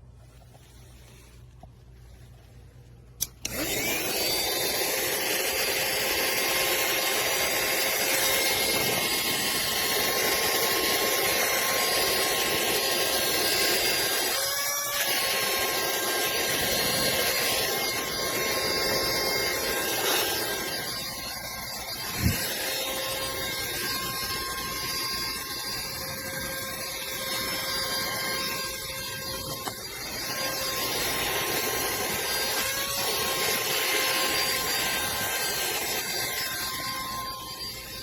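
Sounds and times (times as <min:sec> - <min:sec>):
vacuum motor whining: 0:03.2 - 0:38.0.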